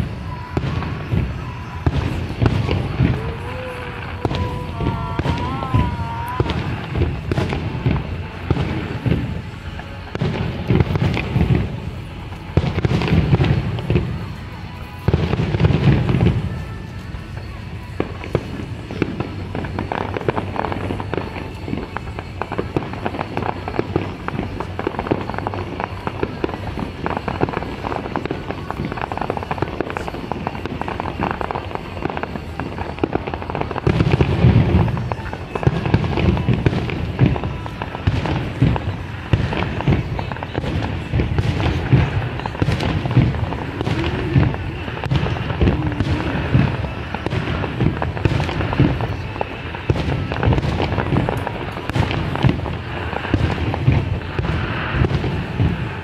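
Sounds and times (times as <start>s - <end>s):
fireworks booming: 0.0s - 56.0s
fireworks popping and crackling: 0.0s - 56.0s.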